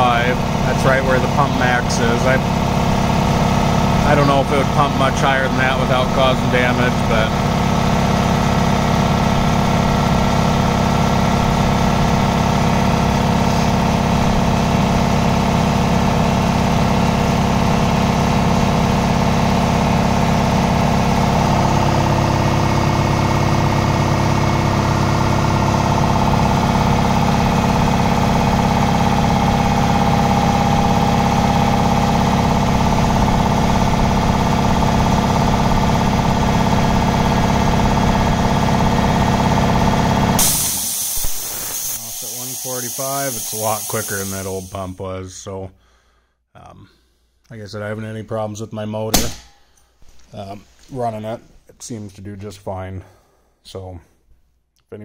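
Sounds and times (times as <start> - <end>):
air compressor running: 0.0 - 45.0.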